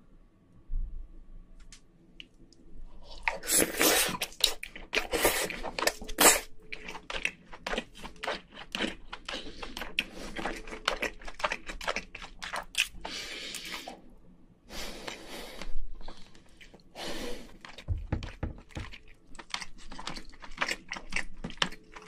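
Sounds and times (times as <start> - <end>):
chewing and wet mouth sounds: 2.2 - 22.0.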